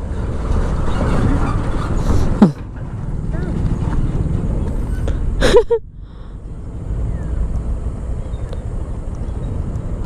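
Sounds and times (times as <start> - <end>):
scooter engine and tyre rumble: 0.0 - 10.0
wind buffeting microphone: 0.0 - 10.0.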